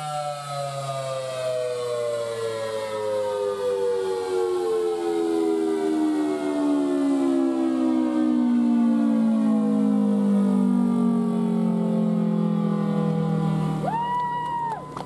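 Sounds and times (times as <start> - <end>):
warning siren two-tone chord: 0.0 - 15.0.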